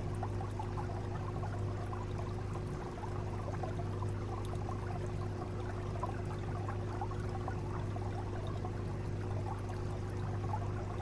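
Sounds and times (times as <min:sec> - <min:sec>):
aquarium water bubbling: 0:00.0 - 0:11.0
steady low hum: 0:00.0 - 0:11.0.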